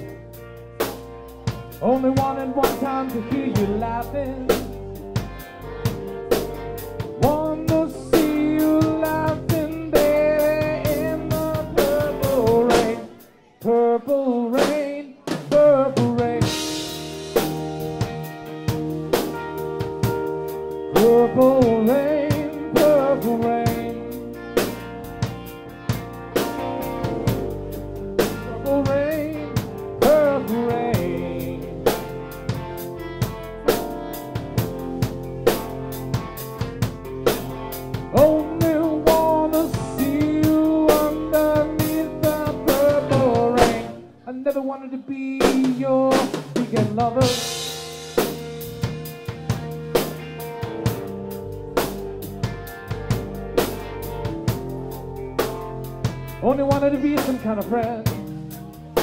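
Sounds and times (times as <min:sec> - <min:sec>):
rock band playing slow ballad: 0:00.0 - 0:44.2, 0:45.4 - 0:59.0.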